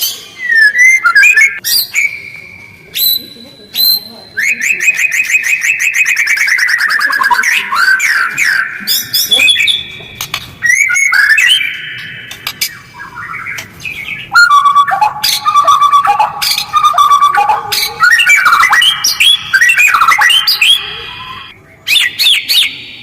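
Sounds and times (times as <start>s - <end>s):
bird singing varied song: 0.0s - 23.0s.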